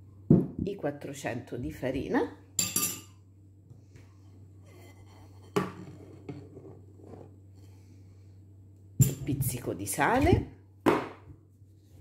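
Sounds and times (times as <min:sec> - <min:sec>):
faint low steady hum: 0:00.0 - 0:12.0.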